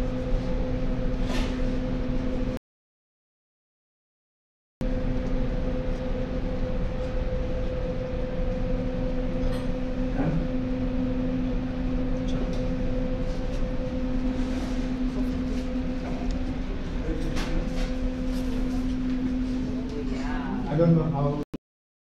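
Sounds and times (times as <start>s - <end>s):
steady mechanical hum: 0.0s - 2.6s, 4.8s - 21.4s.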